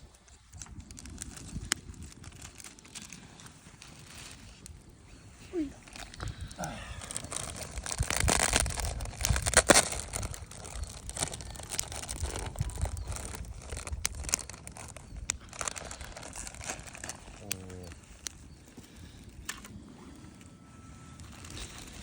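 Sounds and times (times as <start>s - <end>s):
crinkling handling noise: 0.0s - 22.0s.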